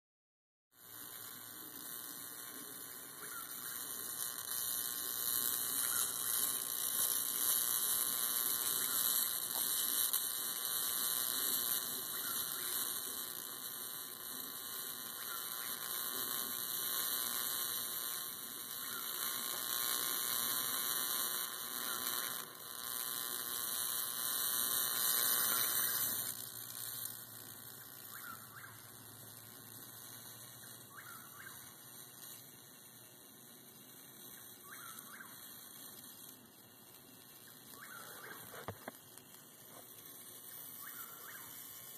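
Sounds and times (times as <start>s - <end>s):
bug zapper sizzling and crackling: 0.7s - 41.9s.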